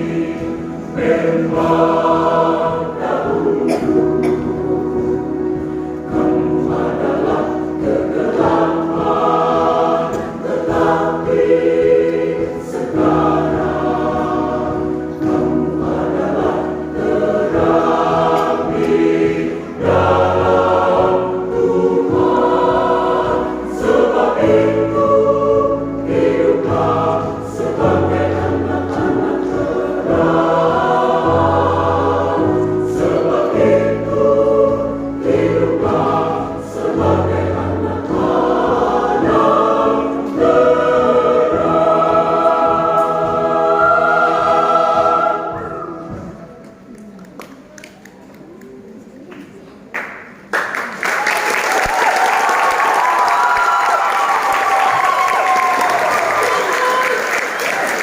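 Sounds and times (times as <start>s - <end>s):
choir singing a hymn: 0.0s - 46.9s, 51.8s - 58.0s.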